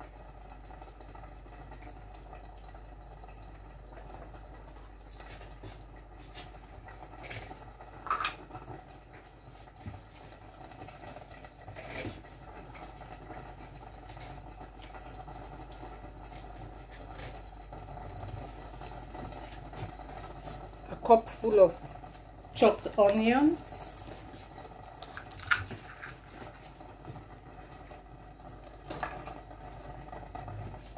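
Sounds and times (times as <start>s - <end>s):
pot bubbling: 0.0s - 30.9s.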